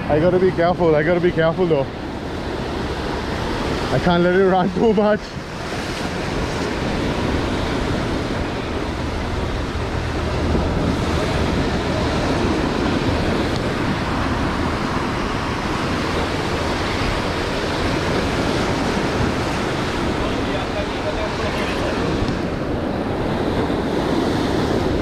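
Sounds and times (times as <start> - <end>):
surf washing onto shore: 0.0 - 25.0
wind buffeting microphone: 0.0 - 25.0.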